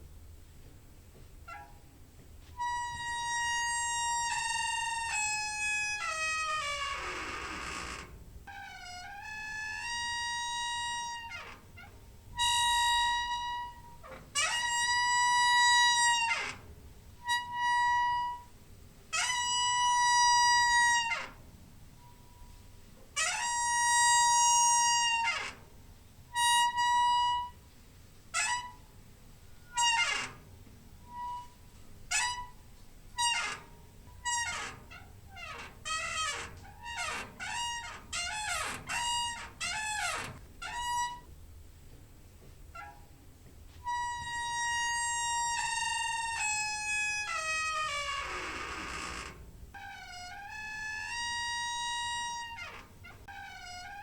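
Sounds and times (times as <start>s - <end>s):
door hinge squeaking: 1.2s - 1.9s, 2.5s - 21.4s, 23.2s - 25.7s, 26.3s - 27.6s, 28.3s - 41.4s, 42.7s - 43.2s, 43.8s - 54.0s.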